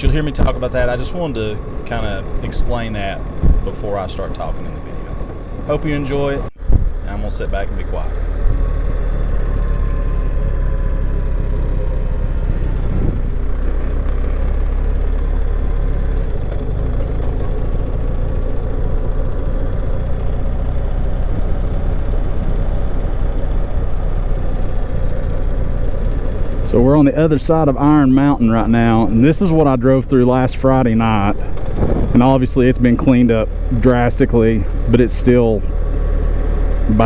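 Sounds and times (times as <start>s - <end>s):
vehicle engine and tyre rumble: 0.0s - 37.0s.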